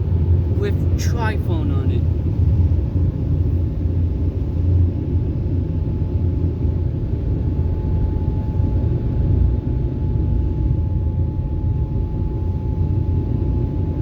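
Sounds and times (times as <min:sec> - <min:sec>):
car wash rumble inside car: 0:00.0 - 0:14.0
faint steady hum: 0:00.0 - 0:14.0.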